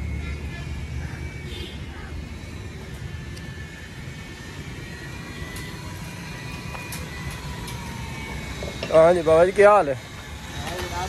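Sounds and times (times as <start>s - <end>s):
distant engine rumble: 0.0s - 11.0s
faint high whine: 0.0s - 11.0s.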